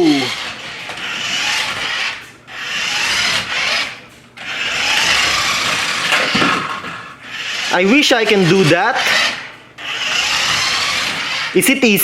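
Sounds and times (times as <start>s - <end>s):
toy car tyres skidding: 0.0s - 11.5s.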